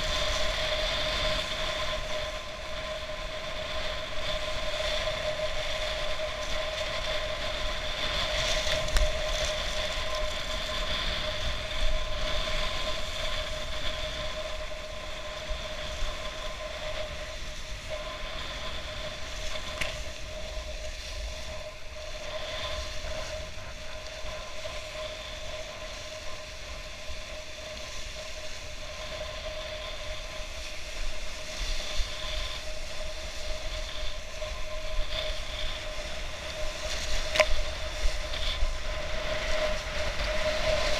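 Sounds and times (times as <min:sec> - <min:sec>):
steady high-pitched whine: 0:00.0 - 0:40.9
wind buffeting microphone: 0:00.0 - 0:40.9.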